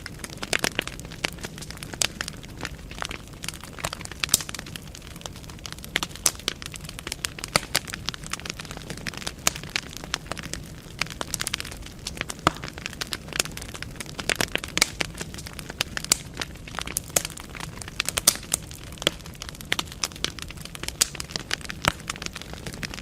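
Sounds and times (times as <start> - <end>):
firewood crackling: 0.0 - 23.0
low rumble of flames: 0.0 - 23.0.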